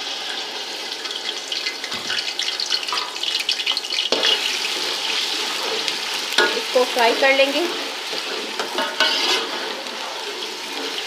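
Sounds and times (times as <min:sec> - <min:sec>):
paste sizzling in a pot: 0:00.0 - 0:11.0.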